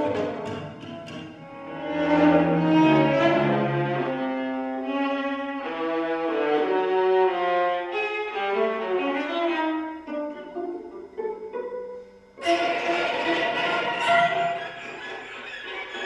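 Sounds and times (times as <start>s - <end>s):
string quartet playing: 0.0s - 16.0s.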